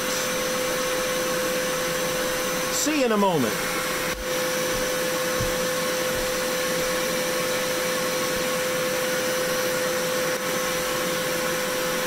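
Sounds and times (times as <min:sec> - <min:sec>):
shop vac whining: 0:00.0 - 0:12.0.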